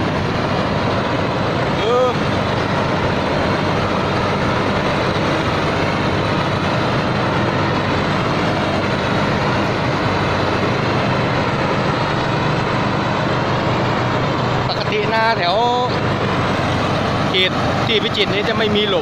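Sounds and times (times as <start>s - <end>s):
combine harvester diesel engine running: 0.0s - 19.0s.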